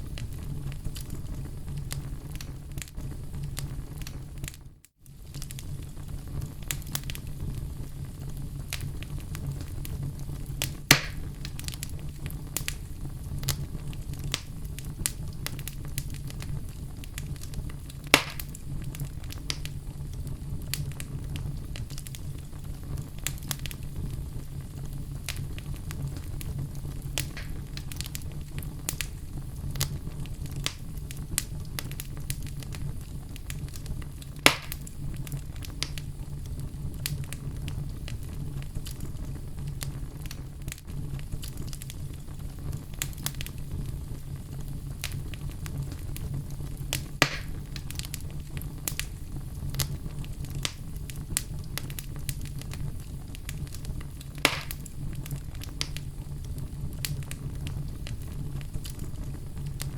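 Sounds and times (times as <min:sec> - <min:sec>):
fire flames rumbling and hissing: 0:00.0 - 0:59.9
logs crackling and popping: 0:00.0 - 0:59.9.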